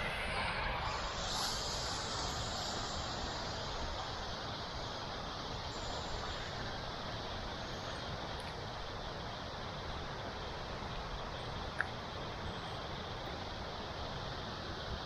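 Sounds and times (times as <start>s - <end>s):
waterfall roar: 0.0s - 15.0s.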